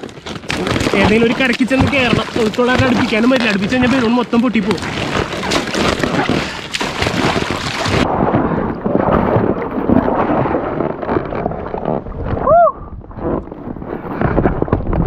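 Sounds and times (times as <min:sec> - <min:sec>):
stream water splashing: 0:00.0 - 0:12.4.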